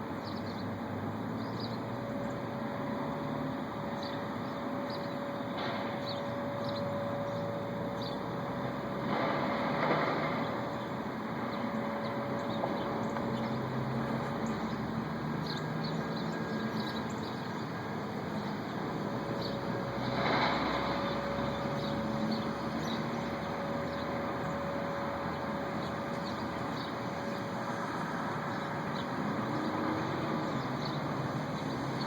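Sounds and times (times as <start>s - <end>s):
distant droning hum: 0.0s - 32.0s.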